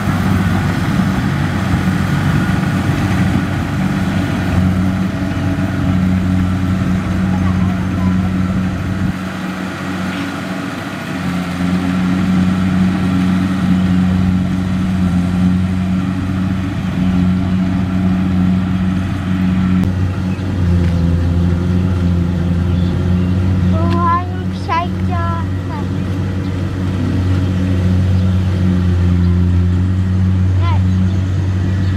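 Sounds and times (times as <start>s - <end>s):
combine harvester engine hum: 0.0s - 31.9s.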